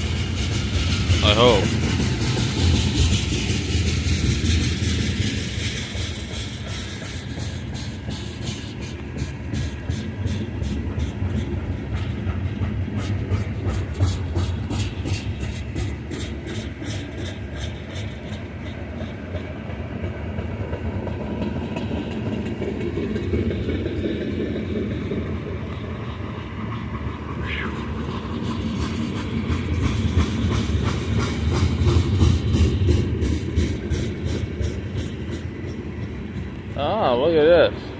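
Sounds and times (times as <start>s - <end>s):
wheels clicking over rail joints: 0.0s - 27.2s, 27.9s - 37.9s
train cars rumbling past: 0.0s - 37.9s.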